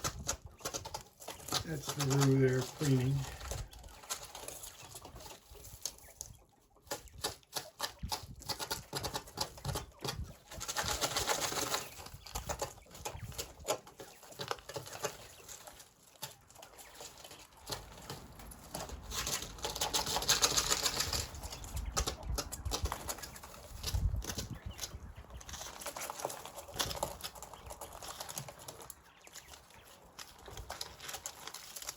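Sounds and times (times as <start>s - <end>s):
rustling: 0.0s - 31.9s.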